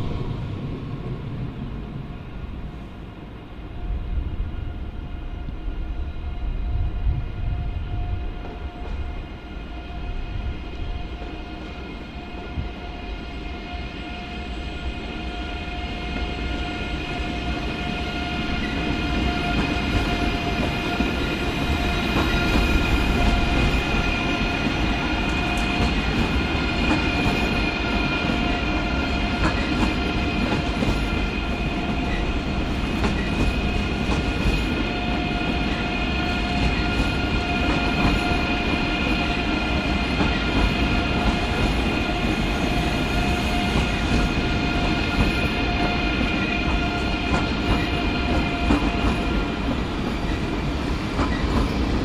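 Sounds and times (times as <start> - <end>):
electric train whine: 0.0 - 52.0
train wheels rumbling on rail: 0.0 - 52.0.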